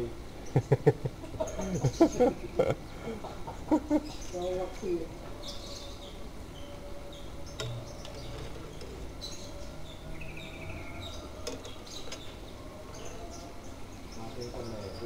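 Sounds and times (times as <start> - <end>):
bird chirps: 1.4 - 15.0.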